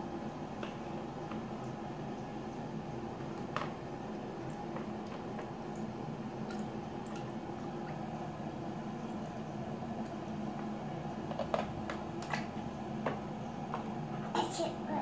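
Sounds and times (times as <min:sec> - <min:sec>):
steady background hum: 0:00.0 - 0:15.0
water lapping in basin: 0:00.6 - 0:14.6.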